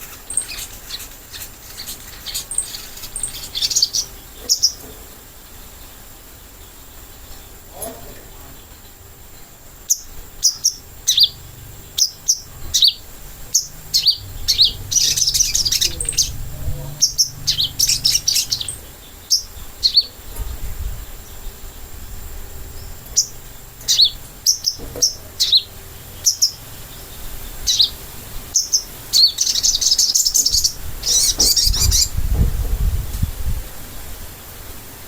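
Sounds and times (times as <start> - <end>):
bird chirping: 0.0 - 32.8.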